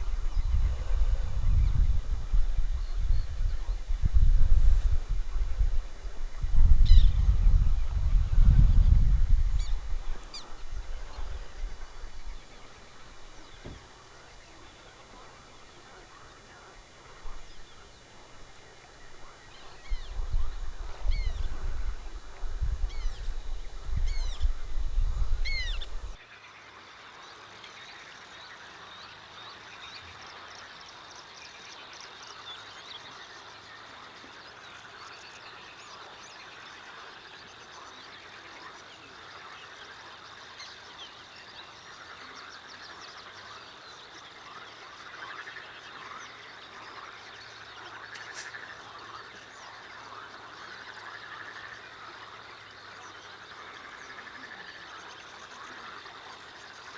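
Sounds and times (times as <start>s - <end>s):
frogs croaking: 0.0s - 56.9s.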